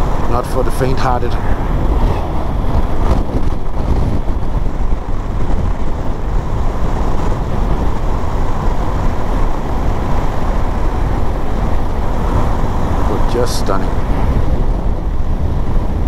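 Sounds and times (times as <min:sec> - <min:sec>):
wind and road noise on microphone: 0:00.0 - 0:16.0.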